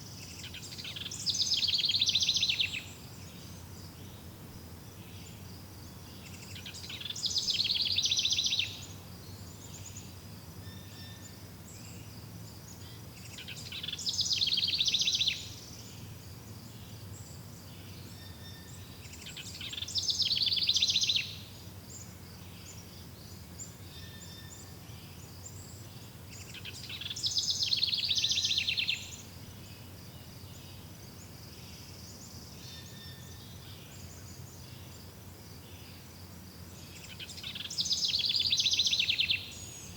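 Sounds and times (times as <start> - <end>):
faint bird chirps: 0.0 - 36.1, 36.8 - 39.9.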